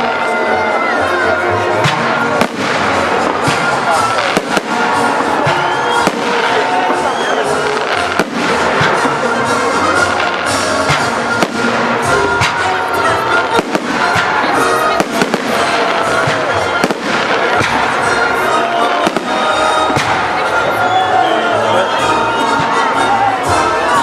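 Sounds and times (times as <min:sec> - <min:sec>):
crowd voices: 0:00.0 - 0:24.0
fireworks bursting with bangs: 0:00.0 - 0:24.0
fireworks crackling: 0:00.0 - 0:24.0.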